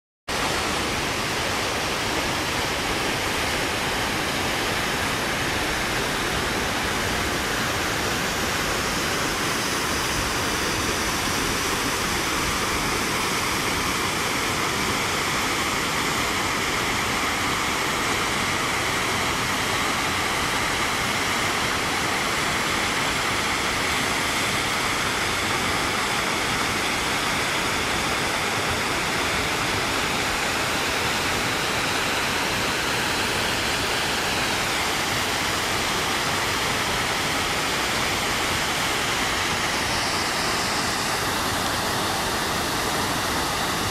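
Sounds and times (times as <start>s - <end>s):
waterfall rushing: 0.3s - 43.9s.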